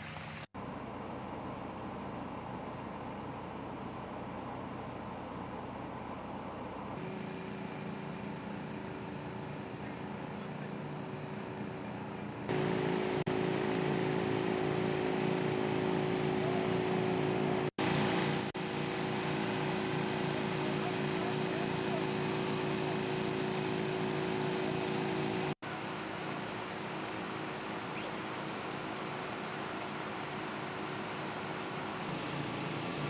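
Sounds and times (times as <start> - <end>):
motor-driven water pump running: 0.0 - 0.5, 7.0 - 33.0.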